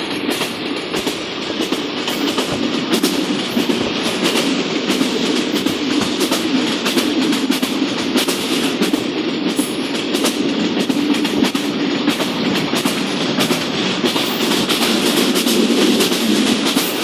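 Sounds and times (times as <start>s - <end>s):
train wheels rumbling on rail: 0.0s - 17.0s
wheels clicking on rail joints: 0.0s - 17.0s.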